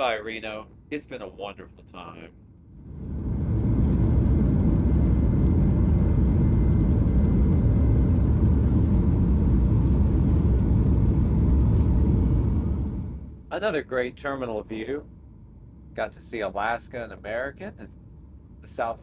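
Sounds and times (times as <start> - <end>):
jet engines rumbling in cabin: 0.0 - 19.0.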